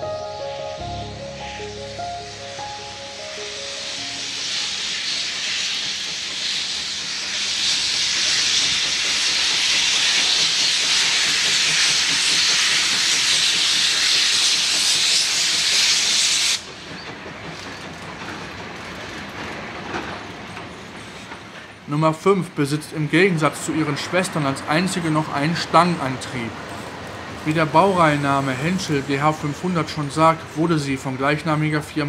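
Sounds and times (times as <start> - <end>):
train rumble: 0.0 - 32.0
steam locomotive hissing steam: 0.2 - 32.0.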